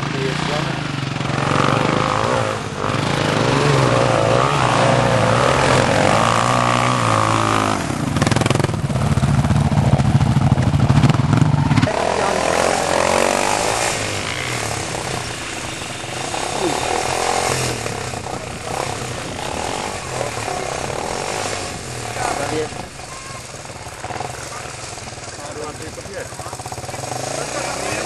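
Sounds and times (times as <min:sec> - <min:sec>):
dirt bike engines revving: 0:00.0 - 0:28.0
dirt bike passing at high revs: 0:00.0 - 0:28.0.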